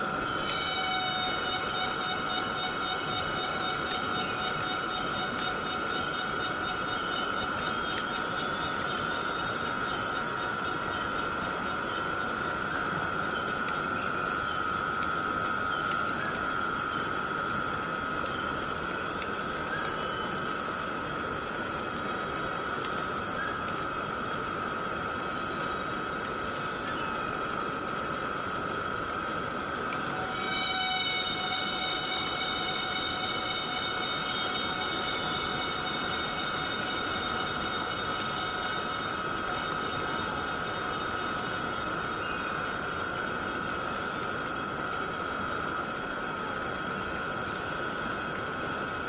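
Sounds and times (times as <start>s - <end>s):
insects chorus: 0.0s - 49.0s.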